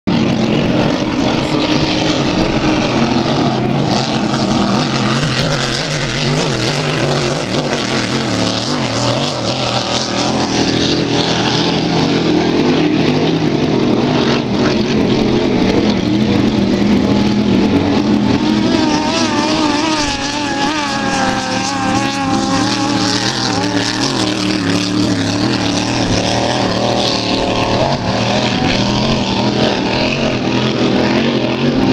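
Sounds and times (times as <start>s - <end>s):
powerboat engines drone: 0.0s - 31.9s.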